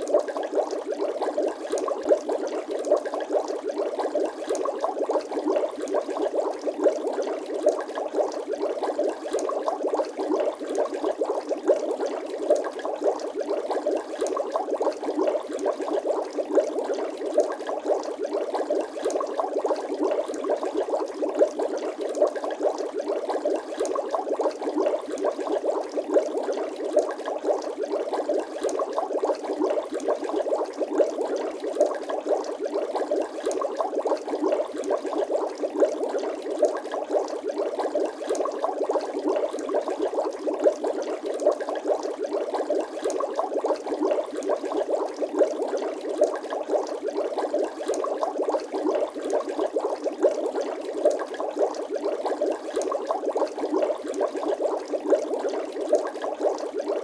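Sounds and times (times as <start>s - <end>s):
water bubbling and gurgling: 0.0s - 57.0s.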